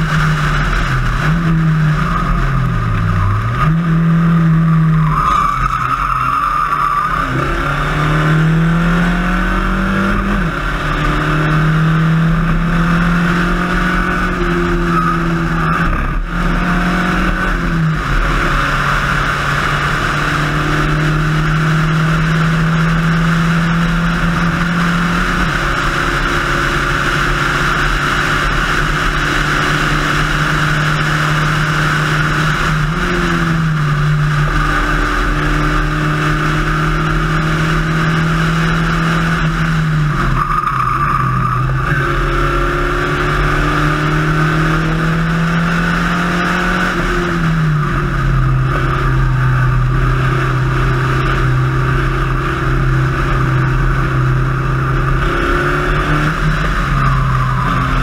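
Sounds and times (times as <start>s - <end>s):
racing car engine revving: 0.0s - 58.0s
wind and road noise: 0.0s - 58.0s.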